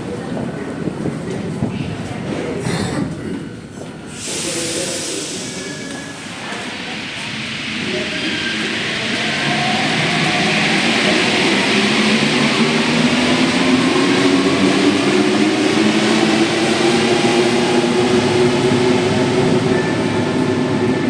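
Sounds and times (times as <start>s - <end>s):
train rolling noise: 0.0s - 21.0s.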